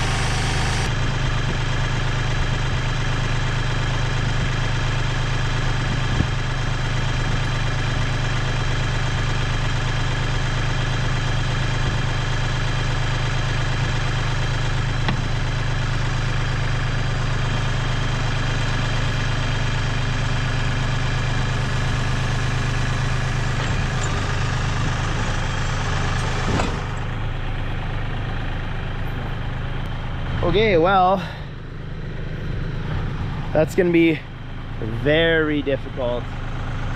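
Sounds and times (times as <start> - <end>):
tractor diesel engine idling: 0.0 - 36.9.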